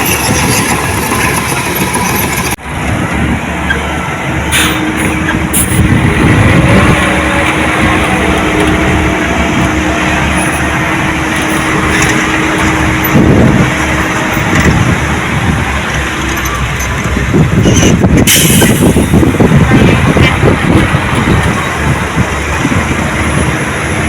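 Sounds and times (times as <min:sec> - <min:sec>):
diesel machinery engine running: 0:00.0 - 0:24.0.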